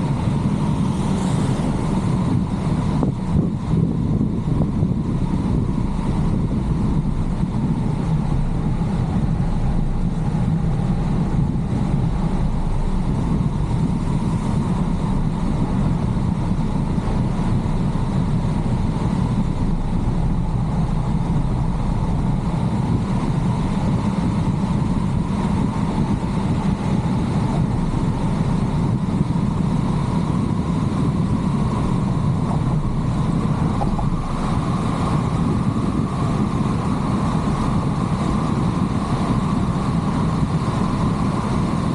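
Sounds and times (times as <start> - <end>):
car engine and tyre noise: 0.0 - 41.9
faint whine: 0.0 - 41.9.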